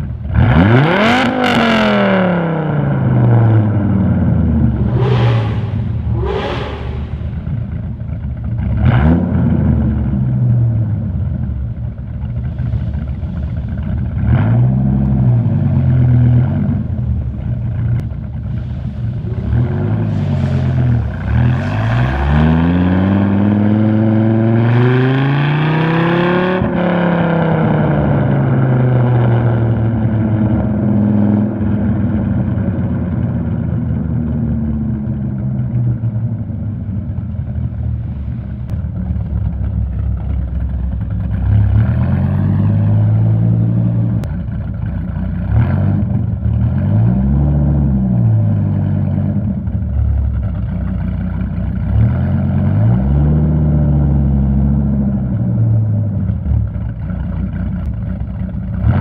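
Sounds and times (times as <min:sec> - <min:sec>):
car engine revving: 0:00.2 - 0:11.4, 0:12.2 - 0:58.0.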